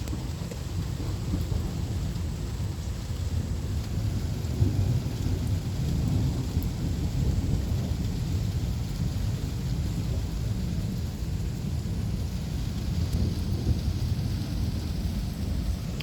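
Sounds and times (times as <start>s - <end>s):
low rumble of thunder: 0.0s - 16.0s
steady rain falling: 0.0s - 16.0s.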